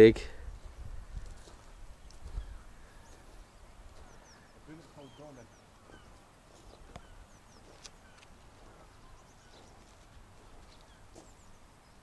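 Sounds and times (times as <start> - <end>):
seaside ambience: 0.4 - 12.0
faint high bird chirps: 0.6 - 12.0.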